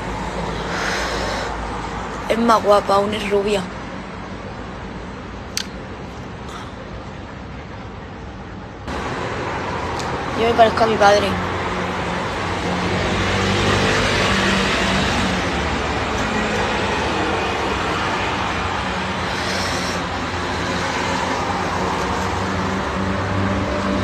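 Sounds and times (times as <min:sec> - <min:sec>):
road traffic rush: 0:00.0 - 0:24.0.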